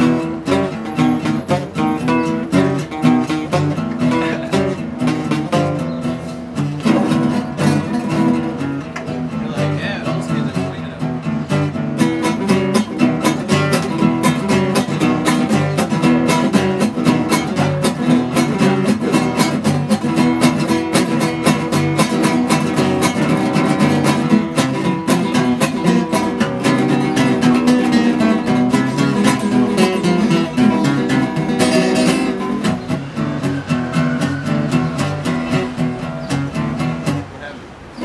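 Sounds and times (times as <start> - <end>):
acoustic guitar picking: 0.0 - 38.0
classical guitar picking: 0.0 - 38.0.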